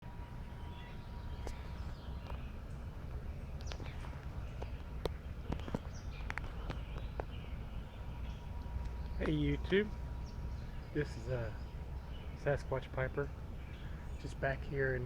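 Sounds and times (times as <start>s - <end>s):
faint bird calls: 0.4s - 15.0s.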